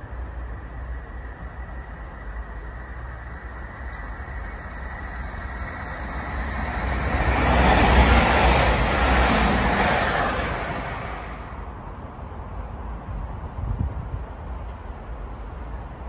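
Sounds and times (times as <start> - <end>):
train passing with rumble: 0.0 - 16.0.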